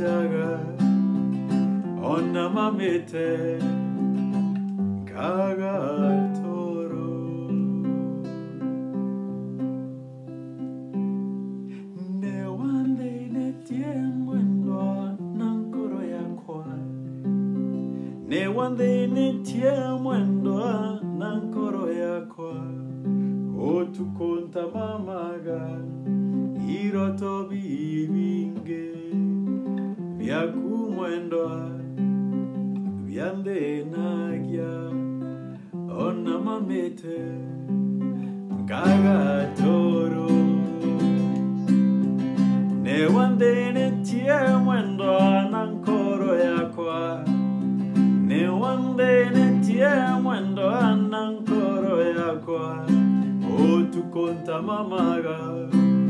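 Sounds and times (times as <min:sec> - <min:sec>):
man singing: 0:00.0 - 0:04.4, 0:05.0 - 0:08.7, 0:11.9 - 0:17.2, 0:18.2 - 0:32.1, 0:32.9 - 0:37.8, 0:38.5 - 0:56.0
classical guitar strummed: 0:00.0 - 0:56.0.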